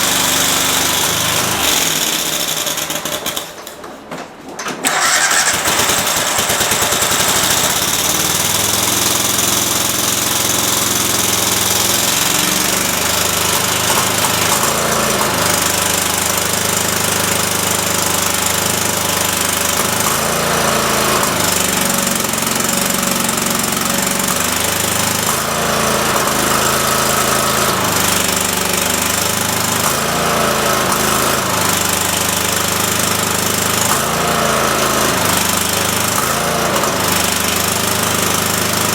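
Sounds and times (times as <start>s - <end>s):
lawn tractor engine running: 0.0s - 3.8s, 4.8s - 38.9s.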